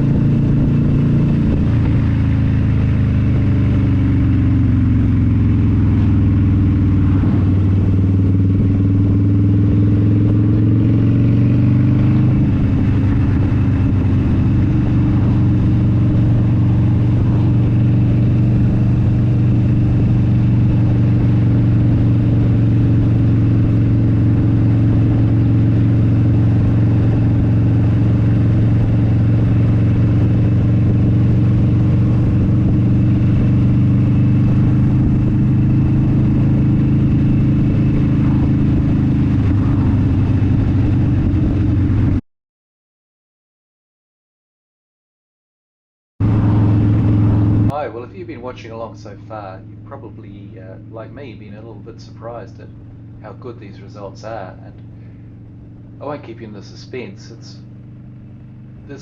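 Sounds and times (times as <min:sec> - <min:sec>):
low wind rumble: 0:00.0 - 0:42.2, 0:46.2 - 0:59.0
motorcycle engine running: 0:00.0 - 0:42.2, 0:46.2 - 0:59.0.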